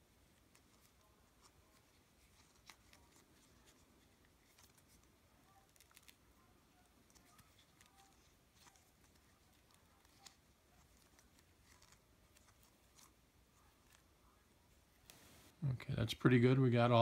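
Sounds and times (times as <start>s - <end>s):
fingers handling plastic: 0.4s - 14.1s.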